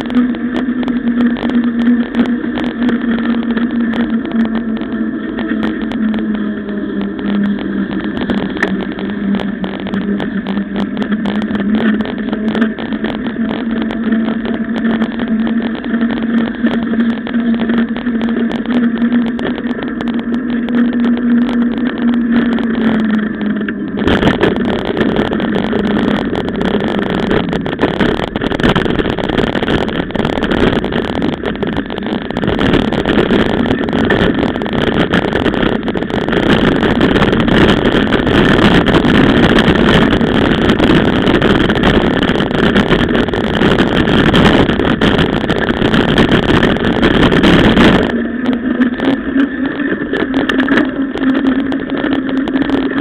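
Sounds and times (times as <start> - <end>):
bike rattling on dirt track: 0.0 - 53.0
bike tyres humming on asphalt: 0.0 - 53.0.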